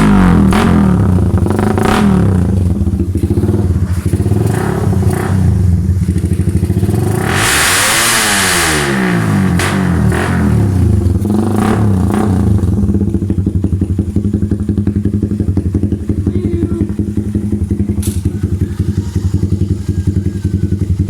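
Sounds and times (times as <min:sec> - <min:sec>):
motorcycle engine idling: 0:00.0 - 0:07.3, 0:09.2 - 0:21.0.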